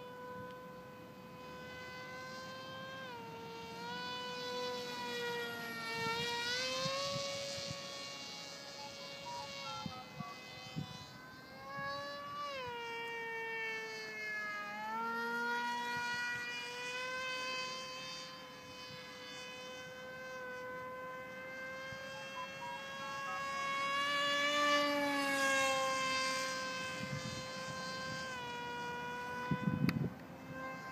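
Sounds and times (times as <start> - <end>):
model plane motor whining: 0.0 - 30.9.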